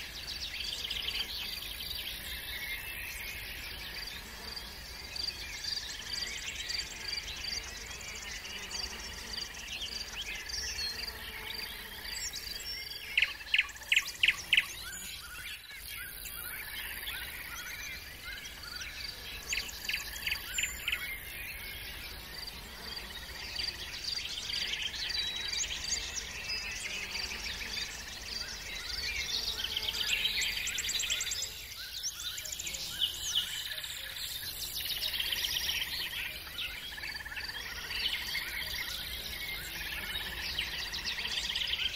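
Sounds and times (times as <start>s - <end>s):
insects chirping: 0.0s - 41.9s
songbirds singing: 0.0s - 41.9s.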